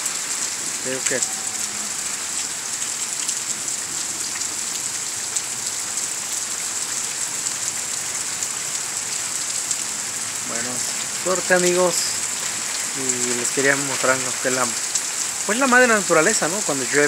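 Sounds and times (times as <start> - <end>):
rain falling on wet ground: 0.0 - 17.0.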